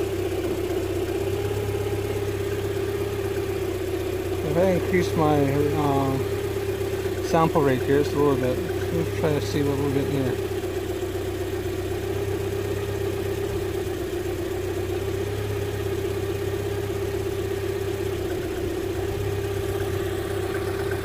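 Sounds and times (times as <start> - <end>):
car engine idling lumpily: 0.0 - 21.0.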